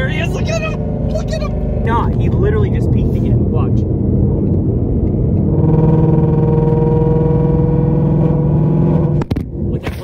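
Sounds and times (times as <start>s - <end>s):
car exhaust drone: 0.0s - 10.0s
road rumble: 0.0s - 10.0s.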